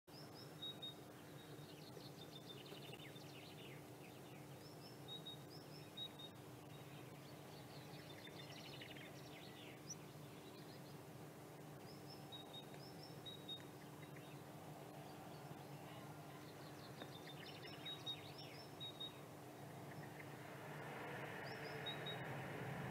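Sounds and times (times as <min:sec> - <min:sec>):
songbird song: 0:00.1 - 0:22.9.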